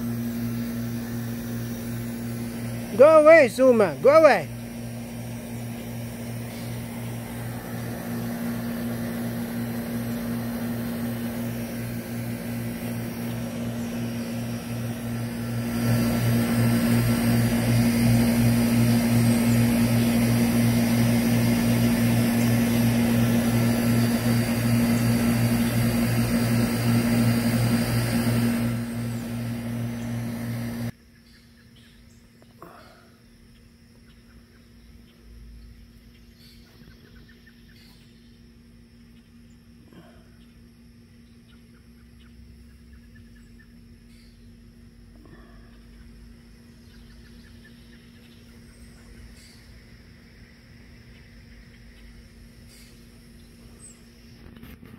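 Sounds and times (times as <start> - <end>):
mechanical hum with pulsing drone: 0.0 - 54.9.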